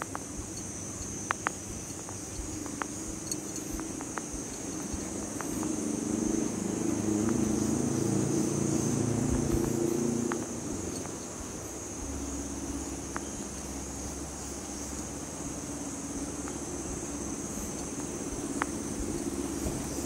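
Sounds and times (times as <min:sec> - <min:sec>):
insect chorus drone: 0:00.0 - 0:20.0
low hum: 0:00.0 - 0:20.0.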